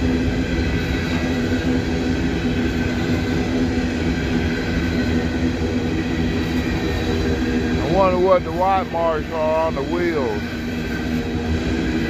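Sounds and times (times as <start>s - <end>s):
freight cars rolling on rails: 0.0s - 12.0s.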